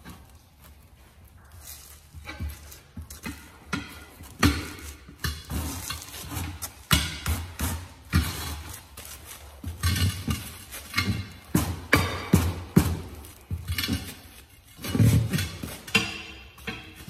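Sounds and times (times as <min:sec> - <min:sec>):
tyre irons clanking on wheel rim: 0:02.2 - 0:17.0.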